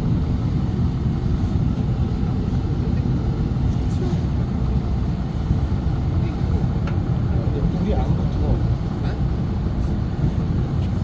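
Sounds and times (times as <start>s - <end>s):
steady low rumbling: 0.0s - 11.0s.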